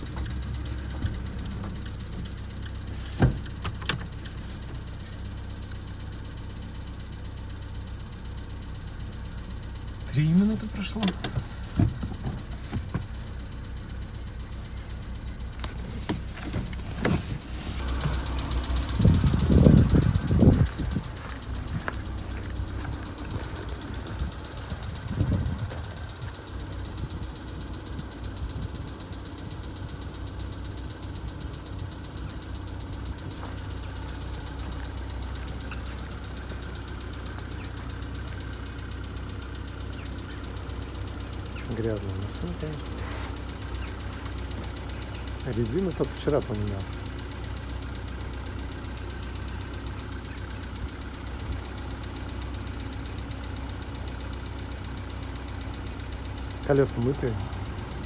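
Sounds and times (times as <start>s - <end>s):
car engine humming: 0.0s - 58.0s
engine ticking: 0.0s - 58.0s.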